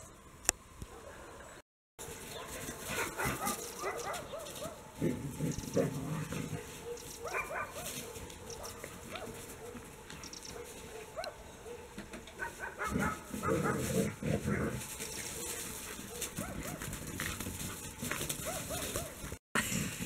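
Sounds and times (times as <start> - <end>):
dogs yipping and barking: 2.0 - 19.4.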